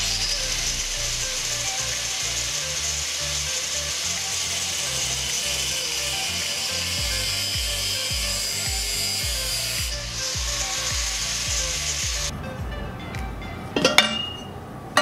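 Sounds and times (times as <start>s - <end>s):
angle grinder cutting metal: 0.0s - 12.3s
background music with beat: 0.0s - 14.4s.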